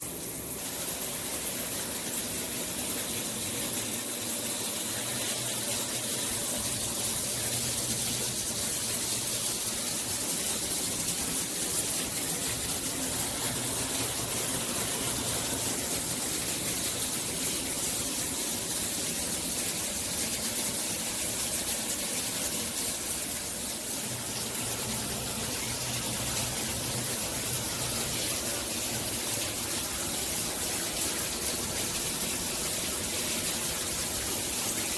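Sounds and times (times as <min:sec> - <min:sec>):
shower water spraying: 0:00.0 - 0:34.9.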